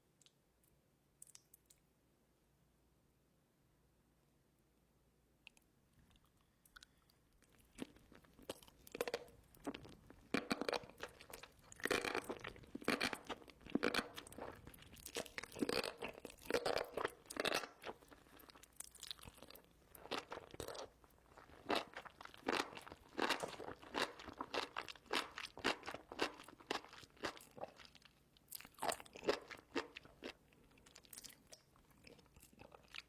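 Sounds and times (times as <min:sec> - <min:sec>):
person chewing: 0:05.5 - 0:33.0.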